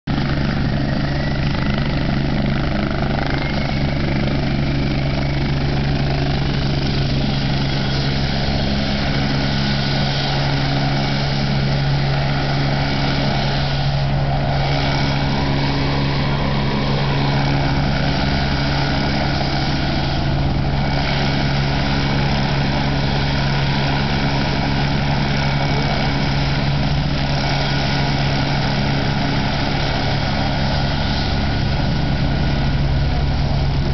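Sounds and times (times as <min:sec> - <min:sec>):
helicopter rotors droning: 0:00.1 - 0:33.9.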